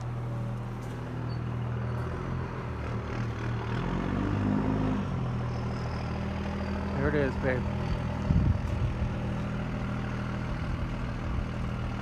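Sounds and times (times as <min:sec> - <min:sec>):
vehicle engine running: 0:00.0 - 0:04.0, 0:05.3 - 0:12.0.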